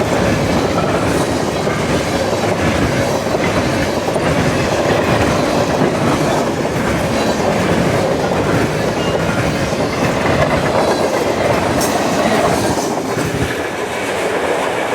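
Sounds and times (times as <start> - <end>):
train wheels rolling on track: 0.0 - 14.9.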